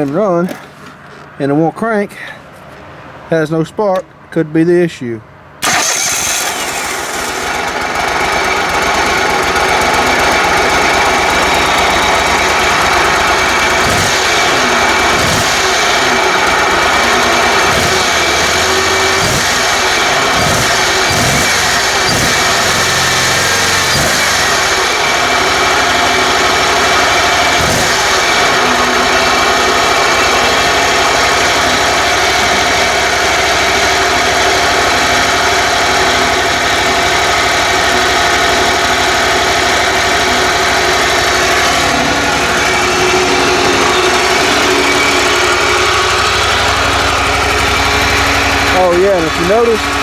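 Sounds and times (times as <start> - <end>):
mower engine running: 5.6 - 50.0.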